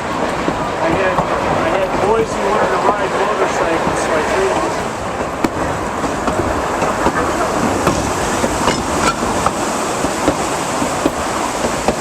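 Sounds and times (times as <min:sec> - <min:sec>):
train car rumbling on track: 0:00.0 - 0:12.0
wheels clicking and knocking: 0:00.0 - 0:12.0.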